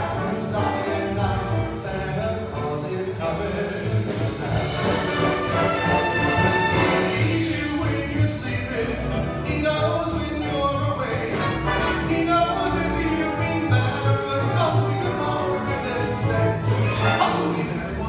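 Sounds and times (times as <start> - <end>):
orchestral music with singing: 0.0 - 18.0.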